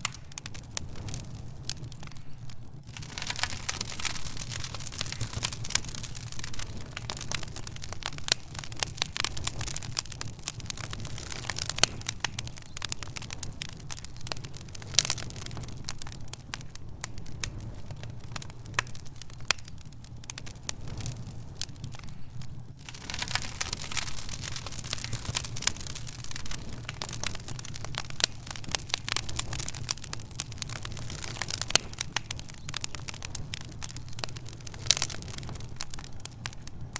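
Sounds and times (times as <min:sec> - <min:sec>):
fire crackling and popping: 0:00.0 - 0:36.9.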